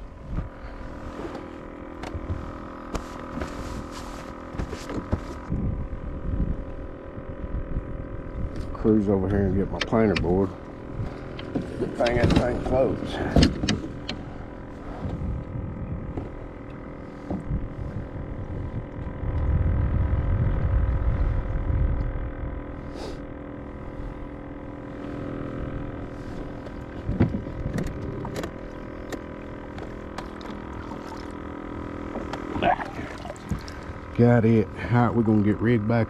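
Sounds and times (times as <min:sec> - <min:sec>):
electric trolling motor whining: 0:00.0 - 0:36.0
low rumble: 0:05.2 - 0:36.0.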